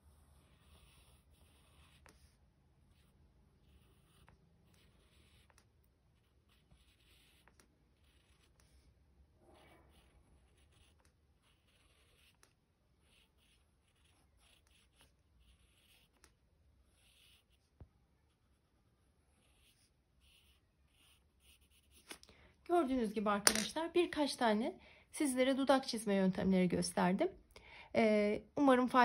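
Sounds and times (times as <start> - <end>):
pencil scratching on paper: 0.0 - 23.6.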